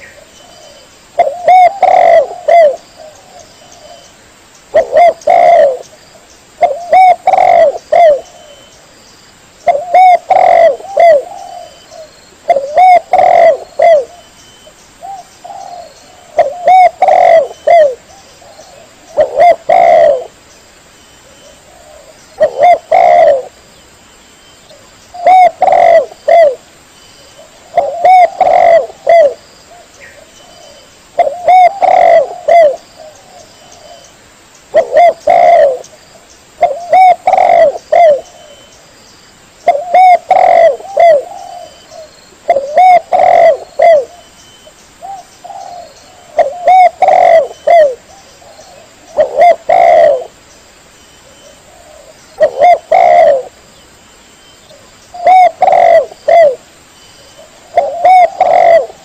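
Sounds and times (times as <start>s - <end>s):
dove cooing: 0.0s - 4.1s, 4.7s - 6.0s, 6.6s - 8.7s, 9.6s - 14.3s, 15.0s - 20.4s, 21.2s - 23.6s, 24.7s - 26.6s, 27.4s - 34.1s, 34.7s - 36.0s, 36.6s - 38.7s, 39.6s - 44.3s, 45.0s - 50.4s, 51.2s - 53.6s, 54.7s - 56.7s, 57.4s - 59.0s.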